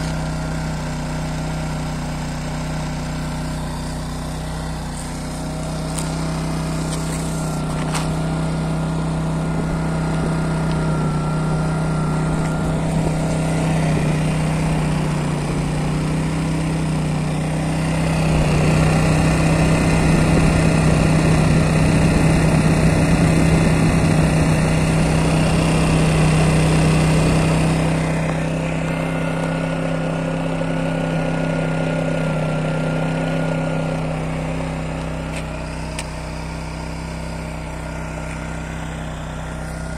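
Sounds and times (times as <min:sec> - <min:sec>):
portable generator engine running: 0:00.0 - 0:39.9.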